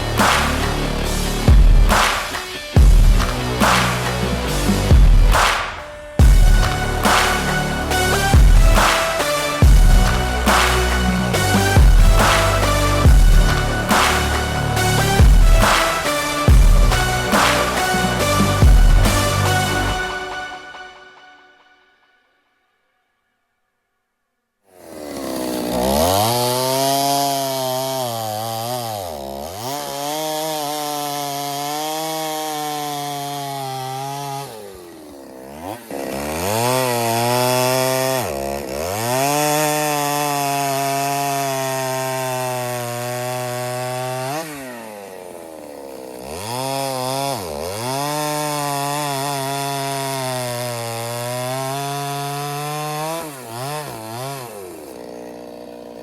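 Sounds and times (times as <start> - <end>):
chainsaw cutting wood: 0.0 - 21.3, 24.6 - 56.0.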